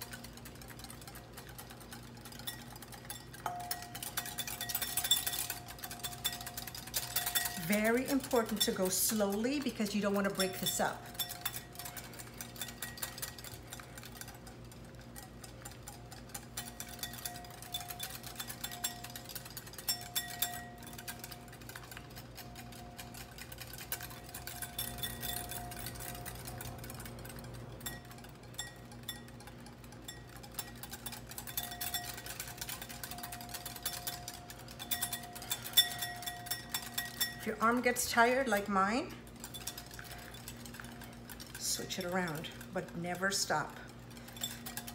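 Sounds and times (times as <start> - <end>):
faint steady hum: 0.0 - 44.9
whisk clicking in glass bowl: 0.0 - 44.9.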